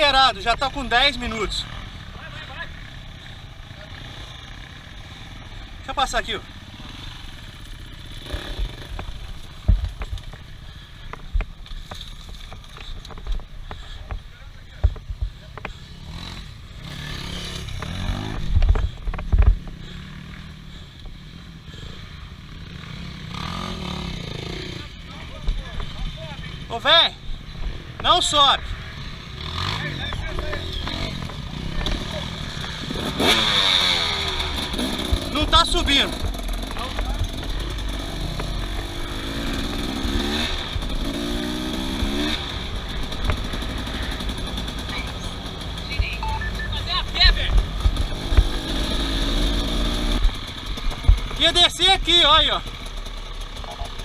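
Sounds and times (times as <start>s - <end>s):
vehicle engine revving: 0.9s - 10.1s, 15.6s - 26.7s, 28.3s - 54.0s.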